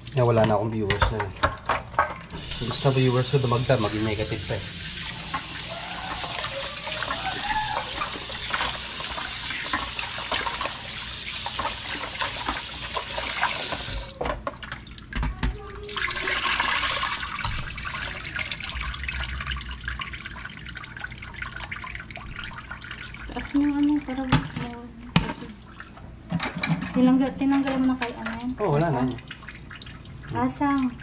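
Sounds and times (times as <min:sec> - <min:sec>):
faucet running into steel bowl: 0:00.0 - 0:25.6
water splashing into sink: 0:00.0 - 0:31.0.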